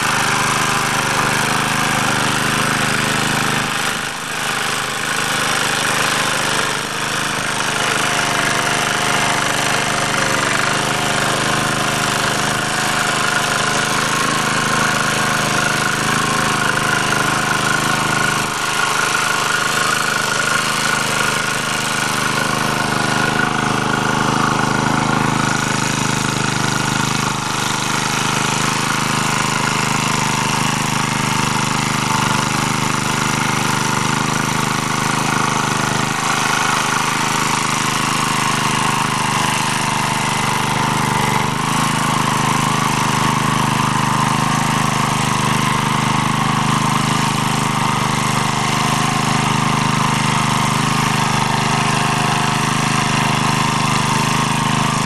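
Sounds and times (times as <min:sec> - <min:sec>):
tiller rotors milling soil: 0:00.0 - 0:55.0
tractor engine running under load: 0:00.0 - 0:55.0.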